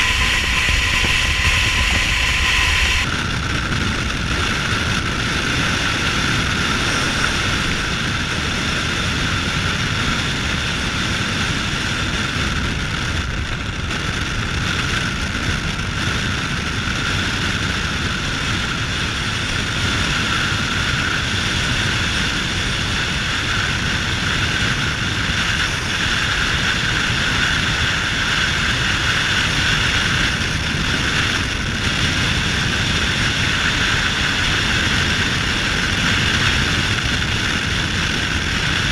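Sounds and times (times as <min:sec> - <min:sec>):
tyre road noise: 0:00.0 - 0:38.9
wind rushing: 0:00.0 - 0:38.9.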